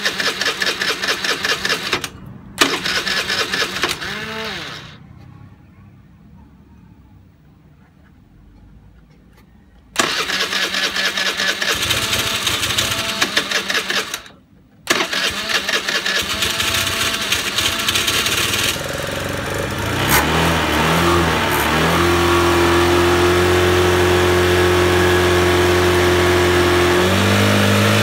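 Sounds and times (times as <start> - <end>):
scooter engine running: 0.0 - 5.0, 10.0 - 28.0.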